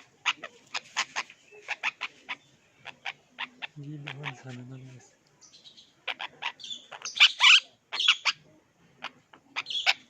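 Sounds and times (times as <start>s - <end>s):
parrots calling: 0.0s - 4.5s, 5.5s - 10.0s.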